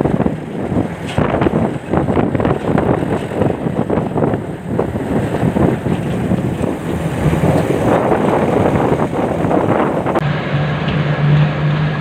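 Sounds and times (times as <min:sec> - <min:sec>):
wind buffeting microphone: 0:00.0 - 0:10.2
car engine running: 0:00.0 - 0:12.0.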